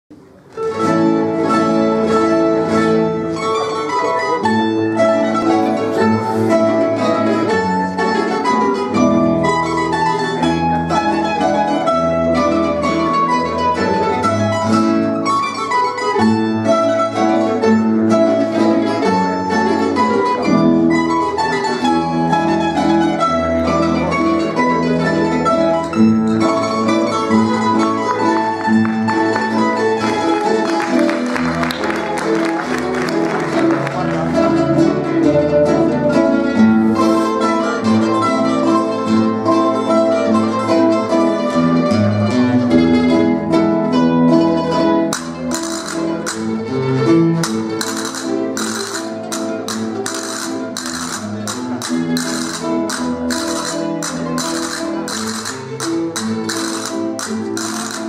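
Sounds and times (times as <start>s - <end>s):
plucked string ensemble playing: 0.1s - 58.0s.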